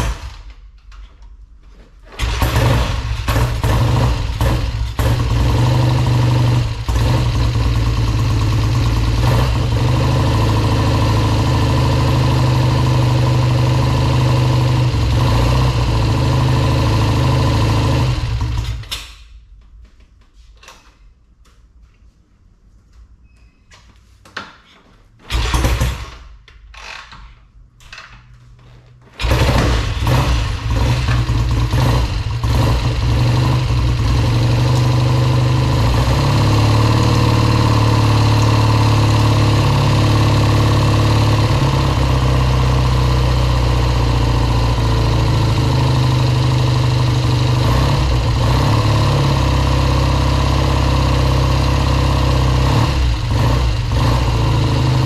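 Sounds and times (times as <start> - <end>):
motorcycle engine starting and running: 0.0 - 1.1, 1.8 - 19.3, 25.2 - 55.0.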